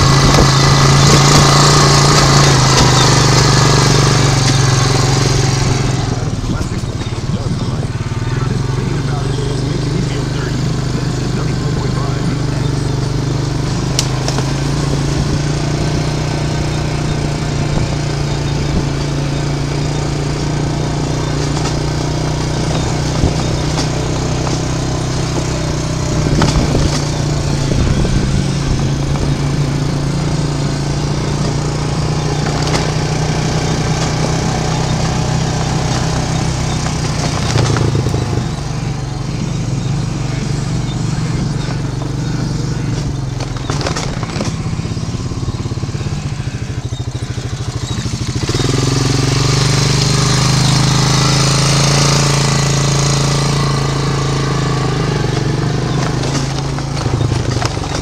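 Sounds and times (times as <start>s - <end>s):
knocks and rattles: 0.0s - 8.5s, 13.1s - 39.6s, 41.1s - 53.6s, 54.8s - 58.0s
atv engine running: 0.0s - 58.0s.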